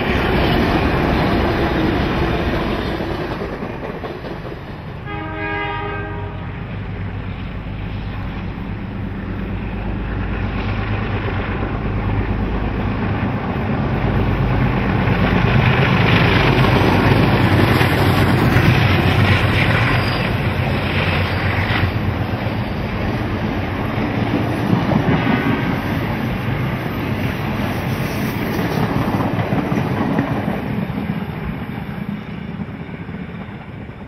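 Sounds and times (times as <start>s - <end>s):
diesel locomotives passing: 0.0s - 34.0s.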